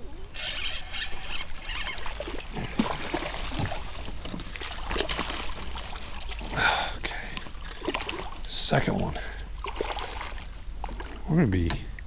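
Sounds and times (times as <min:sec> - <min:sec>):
low steady rumble: 0:00.0 - 0:12.0
water sloshing: 0:00.0 - 0:12.0.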